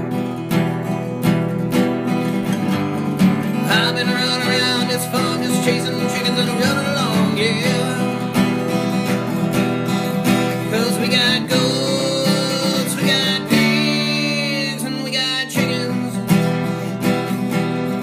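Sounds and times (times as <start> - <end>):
strummed acoustic guitar: 0.0 - 18.0
person singing: 3.2 - 18.0.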